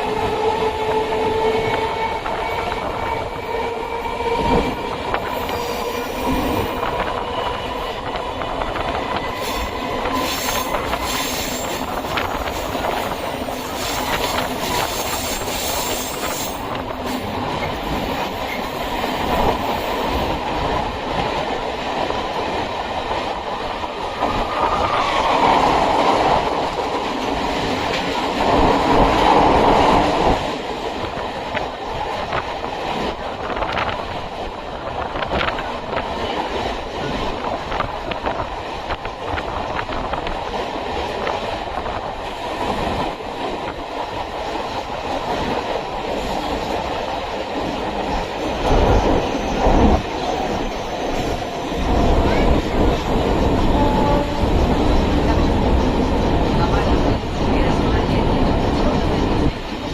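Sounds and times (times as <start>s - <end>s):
electric train rumble and wheel clatter: 0.0s - 59.9s.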